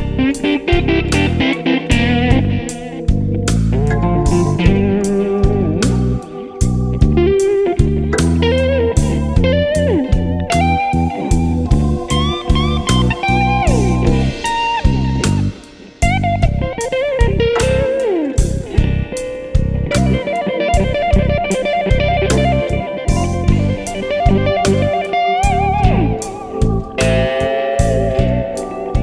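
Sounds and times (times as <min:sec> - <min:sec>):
lead electric guitar: 0:00.0 - 0:29.0
slow blues band: 0:00.0 - 0:29.0.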